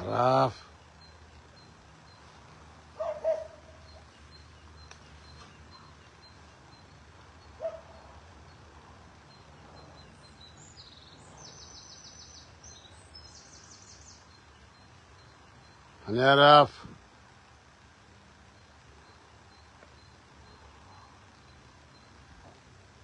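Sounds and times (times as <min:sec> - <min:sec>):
low outdoor background noise: 0:00.0 - 0:23.0
small birds chirping and trilling: 0:00.0 - 0:23.0.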